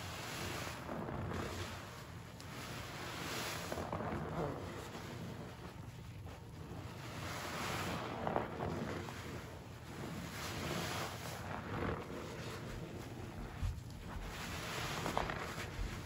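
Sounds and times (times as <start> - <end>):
wet sponge squelching: 0.0 - 16.0.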